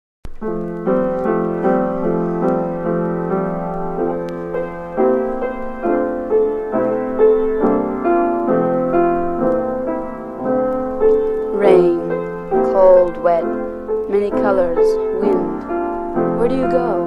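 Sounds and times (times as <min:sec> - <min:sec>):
gentle piano music: 0:00.3 - 0:17.0.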